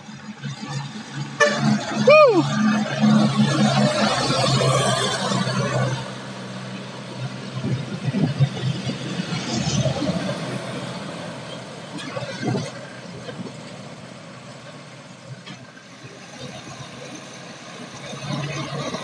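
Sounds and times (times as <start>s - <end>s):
diesel truck engines climbing: 0.0s - 19.0s
tyre and road noise: 0.0s - 19.0s.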